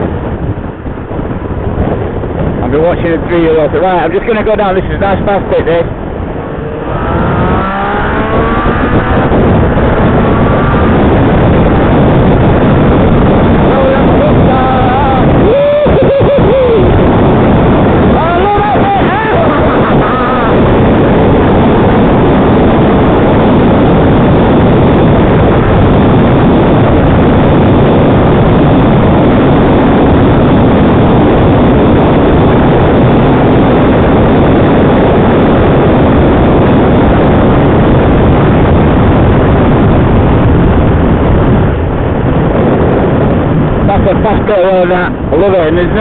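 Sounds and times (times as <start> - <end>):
loud wind rush: 0.0 - 46.0
motorcycle engine drone: 0.0 - 46.0.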